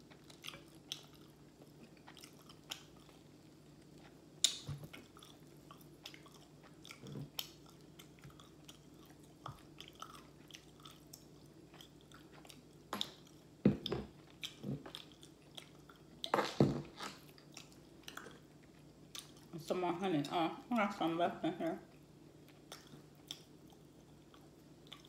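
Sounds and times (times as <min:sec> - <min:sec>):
person chewing crunchy food: 0:00.0 - 0:19.5, 0:21.9 - 0:25.0.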